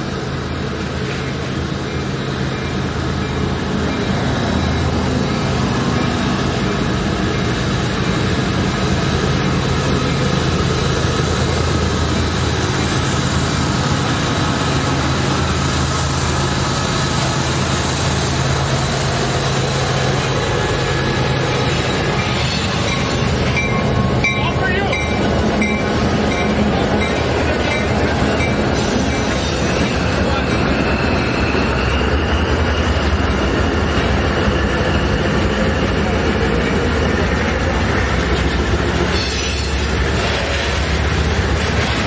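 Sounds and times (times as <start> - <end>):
diesel locomotive drone: 0.0 - 42.0.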